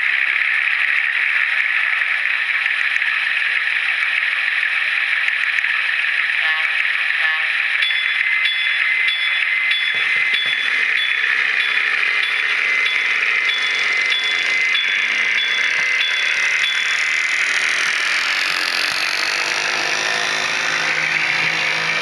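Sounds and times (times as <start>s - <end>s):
model motor and wheels rattling: 0.0s - 22.0s
model train engine sound from speaker: 0.0s - 22.0s.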